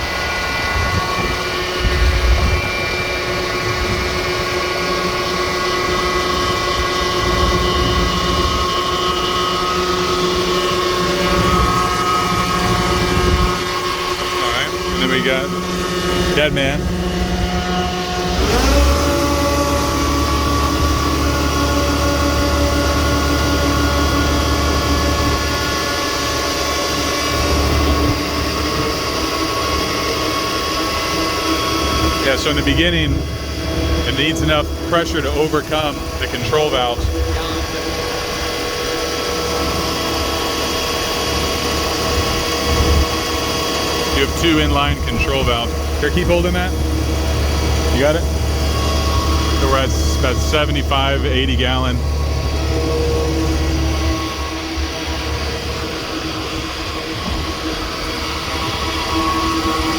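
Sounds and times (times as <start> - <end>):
fuel pumps droning and whining: 0.0 - 59.9
truck engine deep rumble: 0.0 - 59.9.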